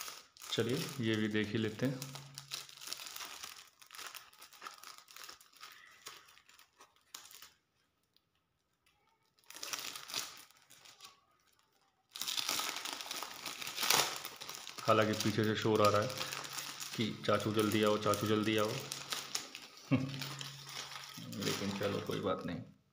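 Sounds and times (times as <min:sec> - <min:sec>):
plastic packet crinkling: 0:00.0 - 0:22.6.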